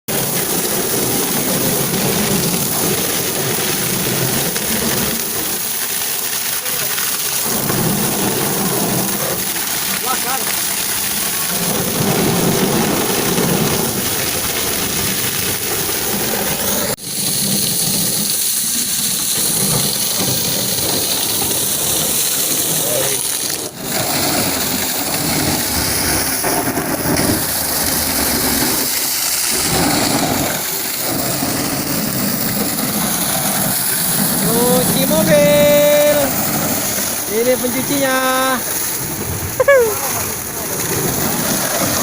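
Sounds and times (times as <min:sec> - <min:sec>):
pressure washer spraying water: 0:00.1 - 0:42.0.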